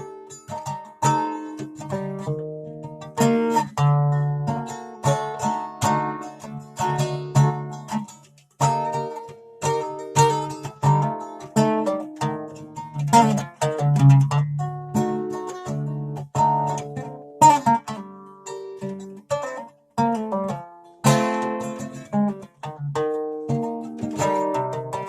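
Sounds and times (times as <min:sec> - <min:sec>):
plucked string instrument: 0:00.0 - 0:25.0.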